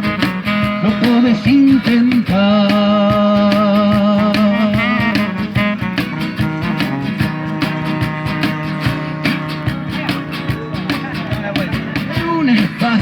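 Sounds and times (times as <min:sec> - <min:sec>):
drums with steady beat: 0:00.0 - 0:13.0
guitars: 0:00.0 - 0:13.0.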